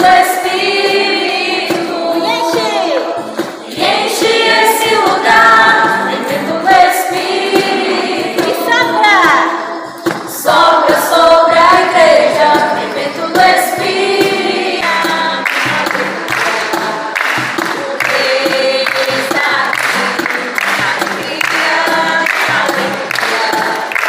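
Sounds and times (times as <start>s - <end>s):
group of voices singing: 0.0s - 24.0s
music: 0.0s - 24.0s.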